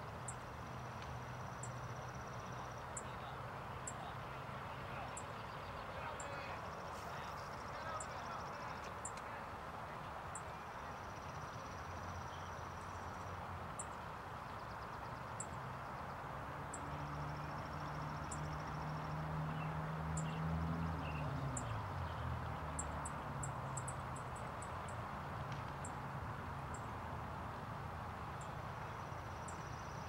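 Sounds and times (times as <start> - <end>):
distant vehicle engine hum: 0.0 - 30.0.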